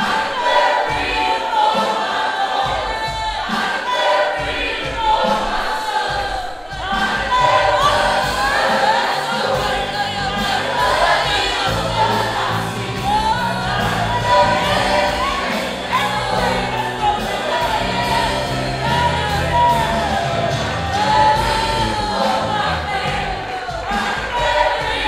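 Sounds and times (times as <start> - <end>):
choir singing gospel: 0.0 - 25.0
instrumental accompaniment: 0.0 - 25.0.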